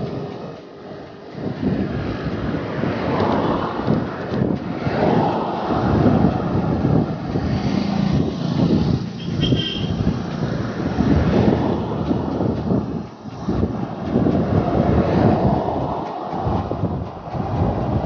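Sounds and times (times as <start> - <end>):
road traffic noise: 0.0 - 18.0
wind buffeting microphone: 0.0 - 18.0.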